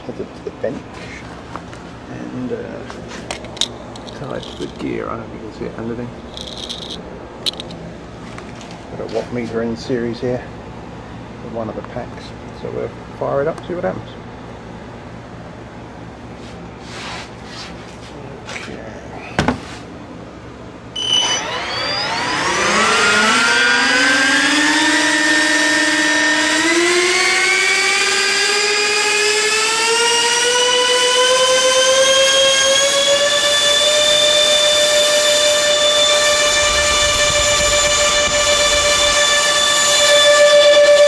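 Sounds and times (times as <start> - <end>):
electric fans whining: 0.0 - 41.0.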